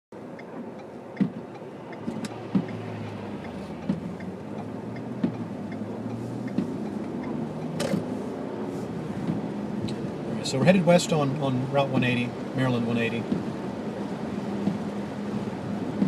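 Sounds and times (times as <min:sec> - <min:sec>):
car engine and tyre drone: 0:00.1 - 0:16.0
windshield wipers knocking: 0:00.4 - 0:08.2, 0:08.9 - 0:16.0.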